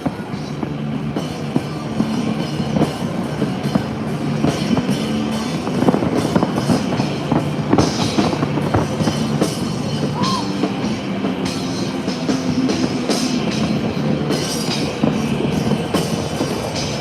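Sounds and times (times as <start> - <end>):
driving drum beat: 0.0 - 17.0
loud rock music: 0.0 - 17.0.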